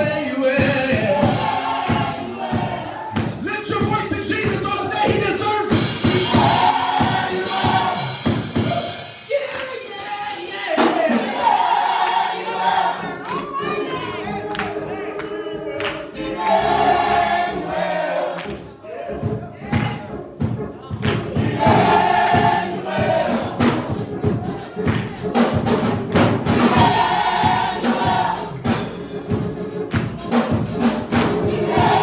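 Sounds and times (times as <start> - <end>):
choir and congregation singing: 0.0 - 32.0.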